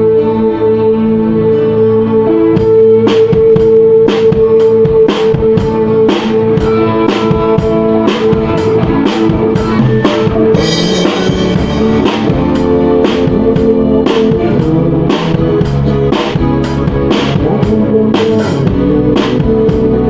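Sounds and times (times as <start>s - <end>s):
electric guitar chords: 0.0s - 20.0s
drum kit steady beat: 2.6s - 20.0s.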